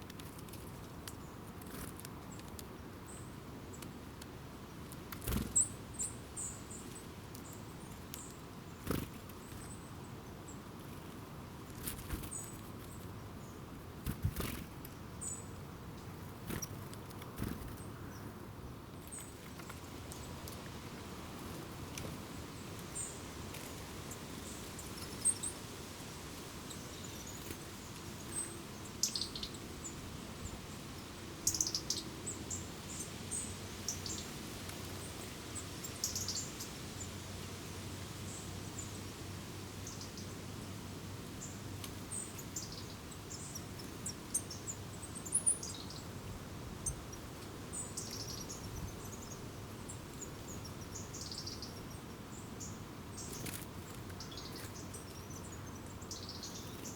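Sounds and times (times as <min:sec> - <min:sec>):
outdoor background noise: 0:00.0 - 0:56.9
small birds chirping: 0:00.0 - 0:56.9.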